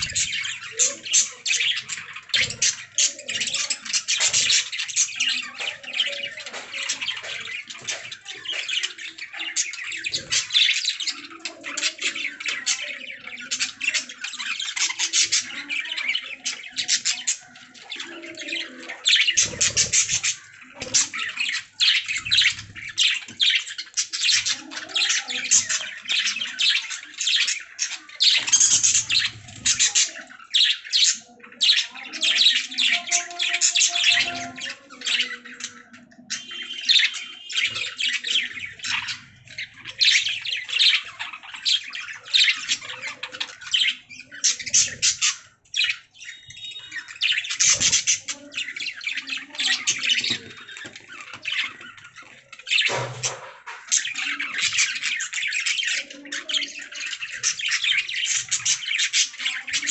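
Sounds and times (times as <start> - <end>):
budgerigars chattering and warbling: 0.0 - 59.9.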